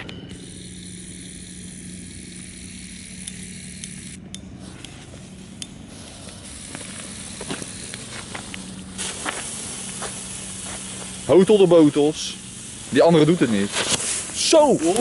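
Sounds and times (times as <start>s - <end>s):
small firework crackles: 0.0s - 15.0s
fireworks hissing sizzle: 0.4s - 15.0s.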